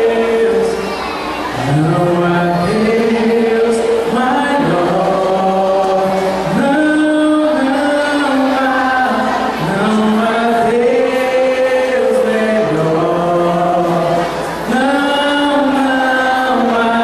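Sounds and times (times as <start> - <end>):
man singing through loudspeaker: 0.0 - 17.0.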